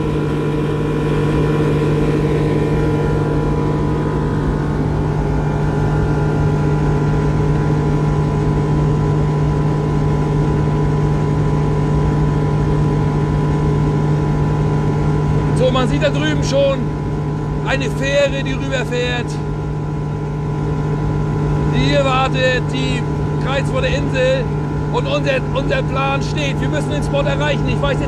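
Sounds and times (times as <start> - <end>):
outboard engine at full throttle: 0.0 - 28.0.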